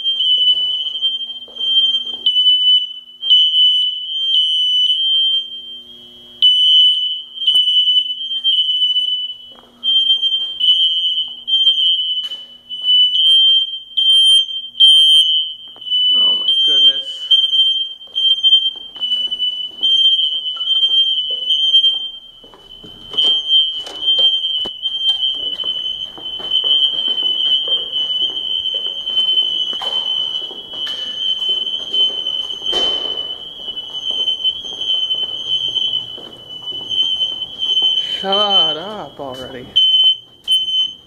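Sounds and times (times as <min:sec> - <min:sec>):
smoke alarms shrill tone: 0:00.0 - 0:41.0.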